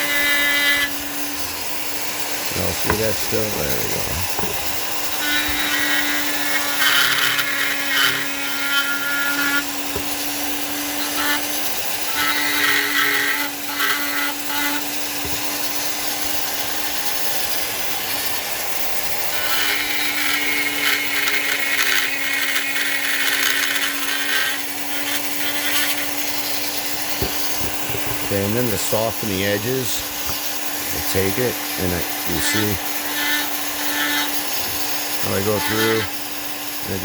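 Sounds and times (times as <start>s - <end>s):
rotary tool grinding wood: 0.0s - 37.0s.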